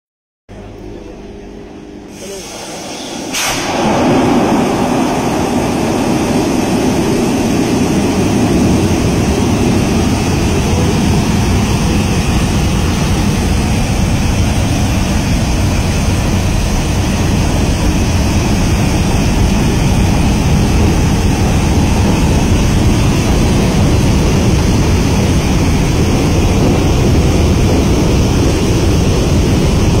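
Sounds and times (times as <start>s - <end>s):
deep rumble: 0.5s - 30.0s
water jets rushing: 2.1s - 30.0s.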